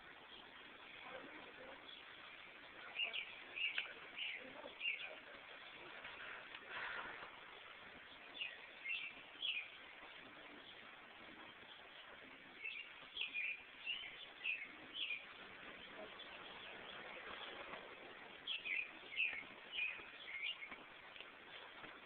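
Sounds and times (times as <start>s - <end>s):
small bird chirping: 0.0s - 5.8s, 7.5s - 21.9s
faint steady hiss: 0.0s - 22.0s.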